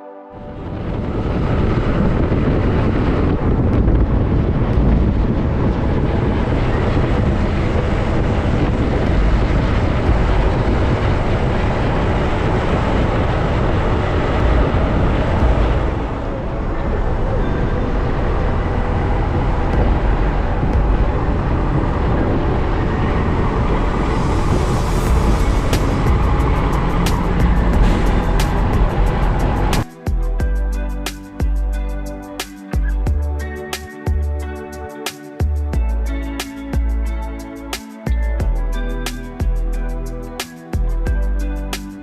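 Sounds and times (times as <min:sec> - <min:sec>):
vehicle noise: 0:00.1 - 0:42.0
wind rumble on microphone: 0:00.3 - 0:42.0.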